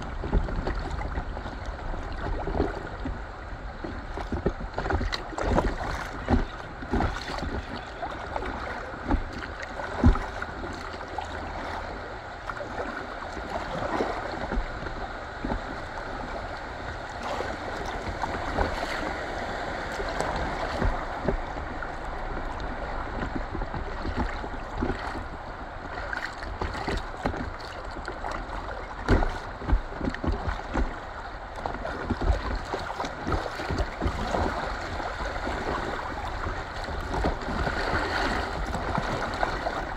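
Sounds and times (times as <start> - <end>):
river water rushing: 1.8 - 39.9.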